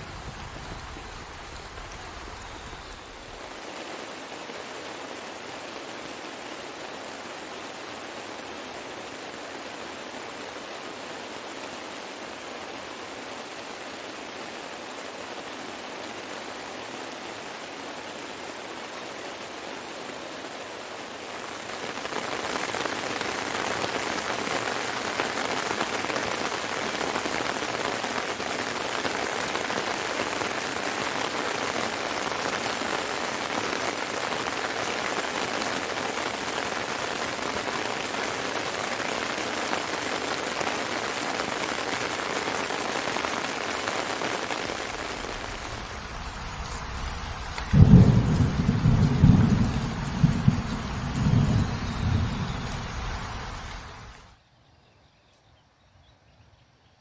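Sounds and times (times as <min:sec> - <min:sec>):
heavy rain falling: 0:00.0 - 0:54.4.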